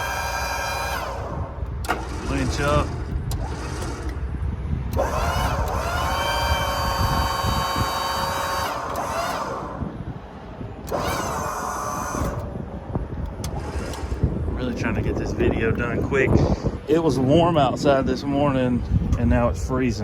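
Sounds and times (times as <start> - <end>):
crane motor whining: 0.0 - 19.2.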